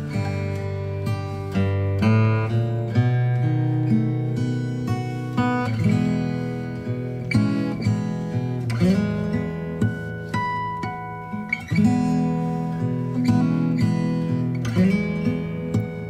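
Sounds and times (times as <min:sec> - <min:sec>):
acoustic guitar playing chords: 0:00.0 - 0:16.0.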